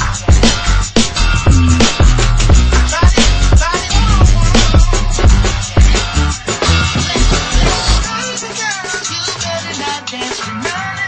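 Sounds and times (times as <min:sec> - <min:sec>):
music with drum beat and guitar: 0:00.0 - 0:11.0.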